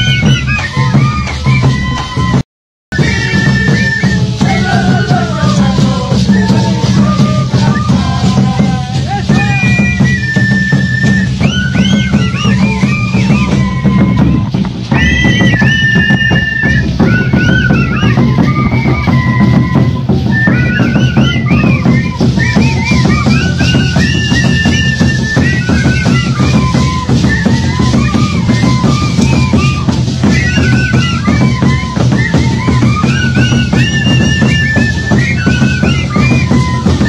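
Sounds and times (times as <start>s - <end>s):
steady drum beat: 0.0s - 37.0s.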